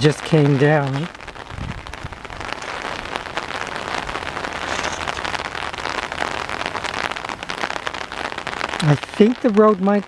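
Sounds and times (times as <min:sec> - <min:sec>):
light rain falling: 0:00.0 - 0:10.0.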